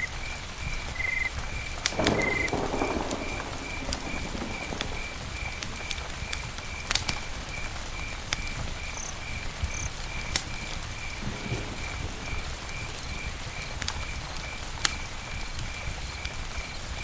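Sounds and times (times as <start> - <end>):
campfire crackling: 0.0 - 17.0
cricket chirping: 0.0 - 17.0.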